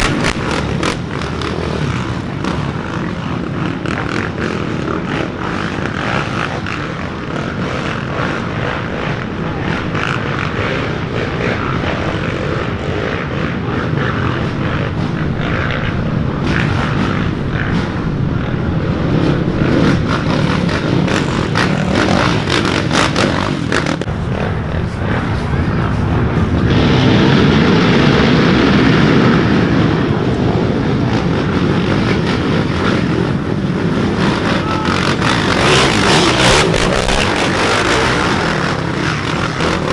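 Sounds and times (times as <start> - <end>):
dirt bike engines racing: 0.0 - 39.9.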